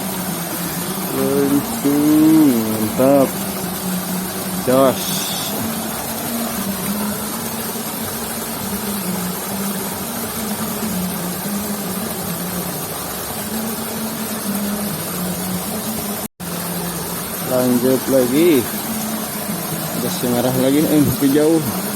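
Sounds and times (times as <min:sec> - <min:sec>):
small motor humming: 0:00.0 - 0:21.9
steady hiss: 0:00.0 - 0:21.9.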